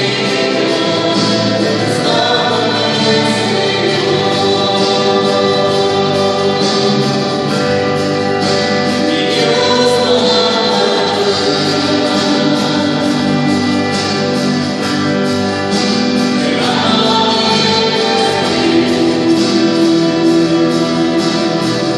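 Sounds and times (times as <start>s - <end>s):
choir singing held notes: 0.0s - 21.9s
instrumental accompaniment: 0.0s - 21.9s.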